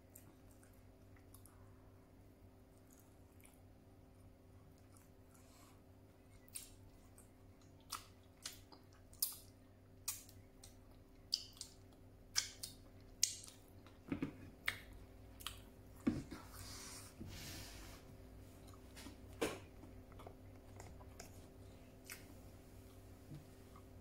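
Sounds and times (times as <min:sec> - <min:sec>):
person chewing with wet smacks: 0:00.0 - 0:01.9, 0:02.7 - 0:16.5, 0:18.6 - 0:24.0.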